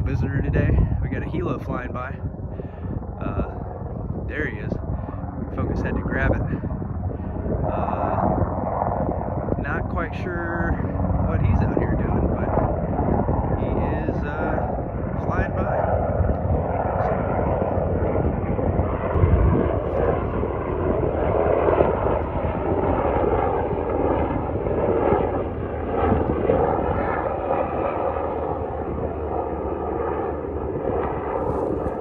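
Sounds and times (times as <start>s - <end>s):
helicopter flying past: 0.0s - 32.0s
low rumble: 0.0s - 32.0s.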